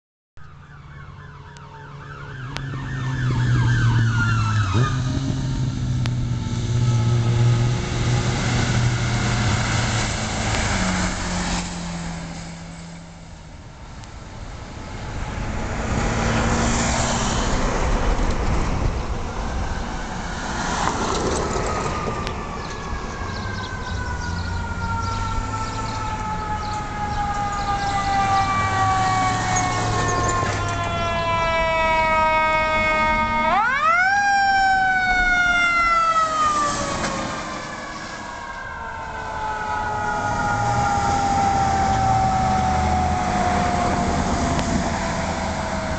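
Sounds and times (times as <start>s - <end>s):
ambulance siren wailing: 0.4s - 13.1s, 15.1s - 45.9s
vehicles passing loudly: 0.4s - 45.9s.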